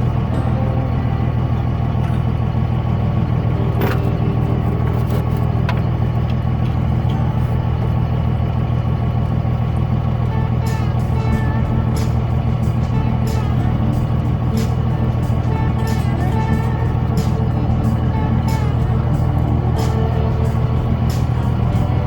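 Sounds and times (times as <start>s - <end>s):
diesel truck engine droning: 0.0s - 22.0s.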